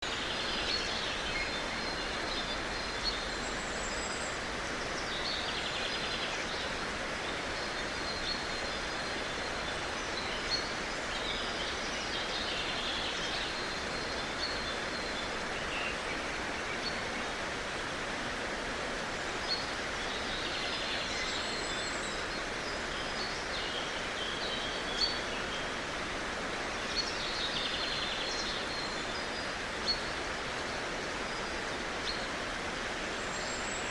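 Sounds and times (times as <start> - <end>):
steady background hiss: 0.0 - 33.9.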